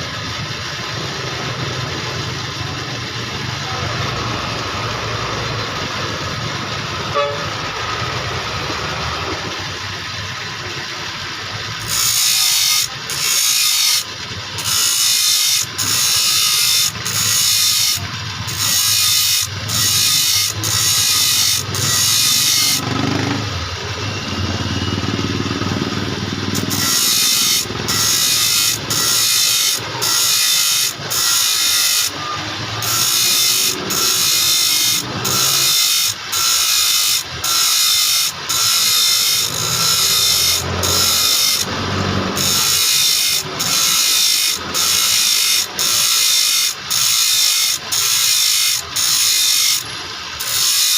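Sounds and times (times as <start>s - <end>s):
grinder hissing on saw teeth: 0.0s - 50.9s
grinder motor running: 0.0s - 50.9s.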